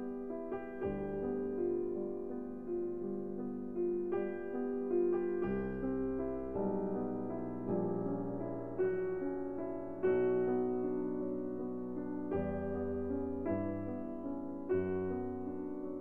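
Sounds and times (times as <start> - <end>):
slow soft instrumental music: 0.0 - 16.0.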